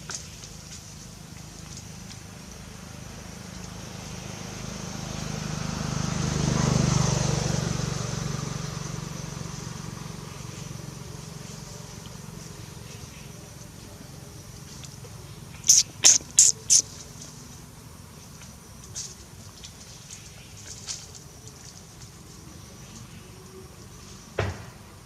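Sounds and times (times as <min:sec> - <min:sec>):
vehicle passing by: 0:00.6 - 0:25.0.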